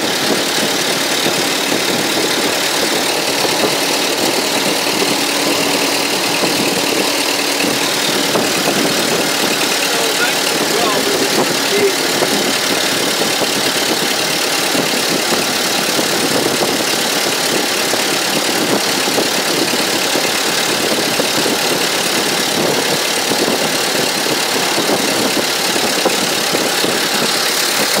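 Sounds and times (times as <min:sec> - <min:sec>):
old car engine chattering: 0:00.0 - 0:28.0
road and wind noise: 0:00.0 - 0:28.0.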